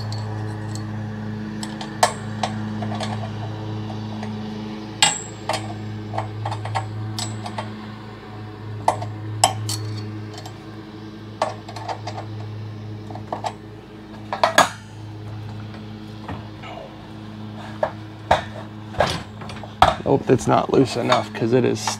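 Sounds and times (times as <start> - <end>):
low hum: 0.0 - 21.9.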